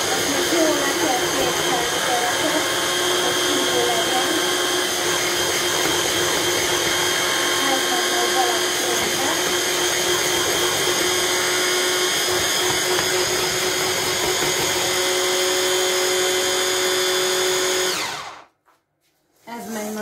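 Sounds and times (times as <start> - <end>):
electric blender running: 0.0 - 18.5.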